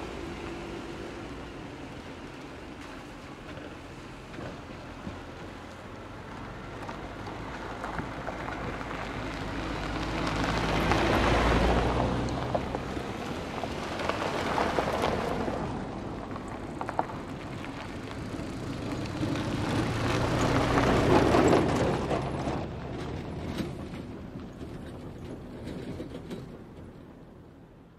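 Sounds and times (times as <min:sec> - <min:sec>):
cars driving past: 0:00.0 - 0:27.9
tyres crunching over gravel: 0:01.6 - 0:26.2.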